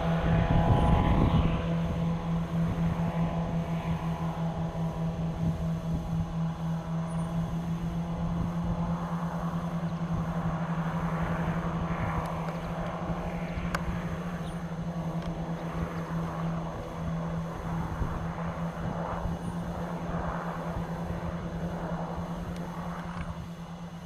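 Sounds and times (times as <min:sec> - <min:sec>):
helicopter engine drone: 0:00.0 - 0:24.0
helicopter rotor rumble: 0:00.0 - 0:24.0.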